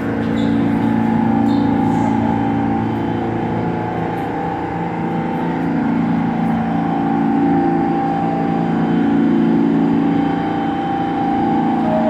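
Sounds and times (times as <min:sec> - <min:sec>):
subway train equipment humming: 0:00.0 - 0:12.0.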